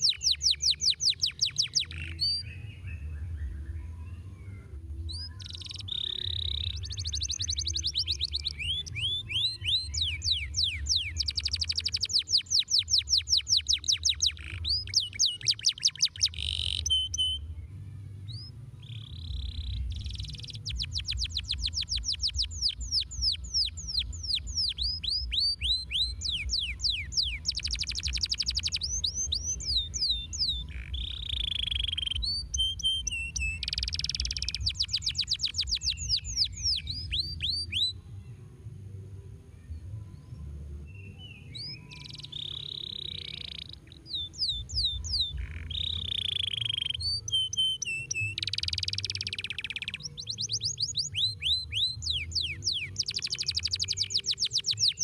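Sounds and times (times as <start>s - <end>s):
canary singing trills: 0.0s - 38.0s, 40.4s - 55.0s.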